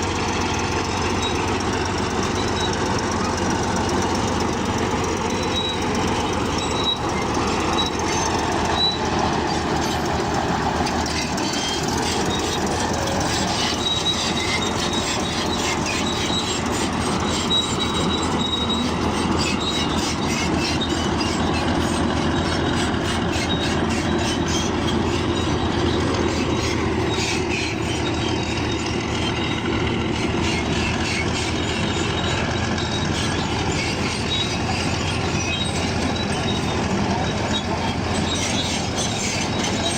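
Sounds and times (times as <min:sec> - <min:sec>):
diesel engine running: 0:00.0 - 0:39.9
high-pitched squeal: 0:00.0 - 0:39.9
rapid metallic clatter: 0:00.0 - 0:39.9
steel tracks clanking: 0:00.0 - 0:39.9.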